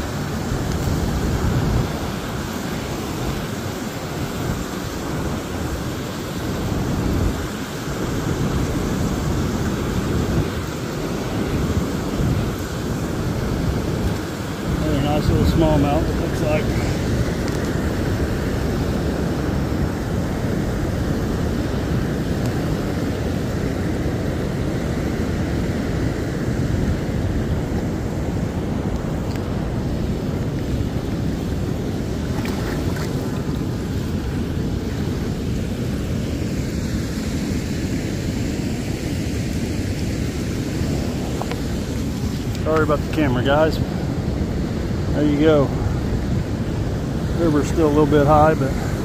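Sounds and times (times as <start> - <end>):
river current rushing: 0.0 - 49.0
wind buffeting microphone: 0.0 - 49.0.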